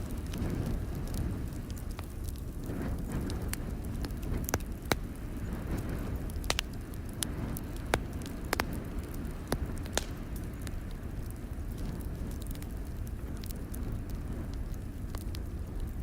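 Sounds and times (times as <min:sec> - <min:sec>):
fire popping: 0:00.0 - 0:16.0
log fire crackling: 0:00.0 - 0:16.0
low fire rumble: 0:00.0 - 0:16.0.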